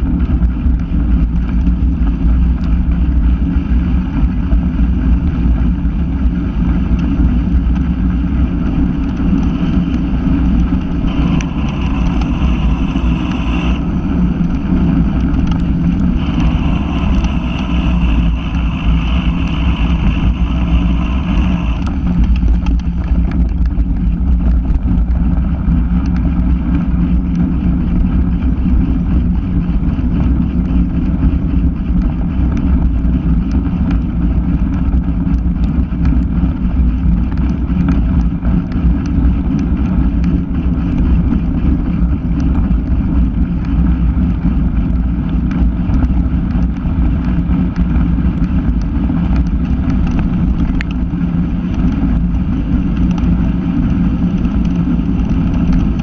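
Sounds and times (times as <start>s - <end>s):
small clicks from ground: 0.0s - 4.6s, 6.2s - 13.8s, 14.4s - 56.0s
tyre rumble on dirt track: 0.0s - 56.0s
wind buffeting microphone: 0.0s - 56.0s.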